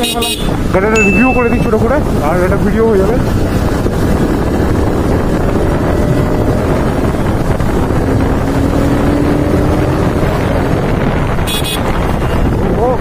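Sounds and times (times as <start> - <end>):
motorcycle engine running: 0.0 - 13.0
wind noise on microphone: 0.0 - 13.0.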